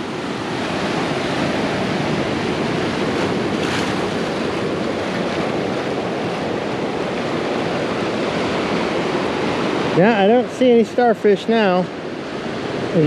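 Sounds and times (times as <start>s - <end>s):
waves breaking on rocks: 0.0s - 11.8s
wind: 0.0s - 13.0s.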